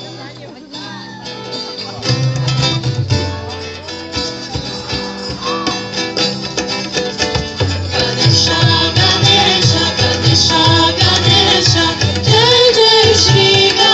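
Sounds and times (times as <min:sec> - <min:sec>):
acoustic guitar strumming: 0:00.0 - 0:13.9
hand drum beating: 0:02.0 - 0:13.9.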